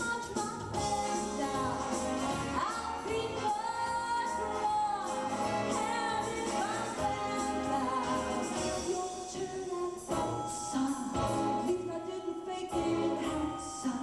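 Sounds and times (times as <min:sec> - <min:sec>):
instrumental accompaniment: 0:00.0 - 0:14.0
woman singing a show tune: 0:00.0 - 0:14.0.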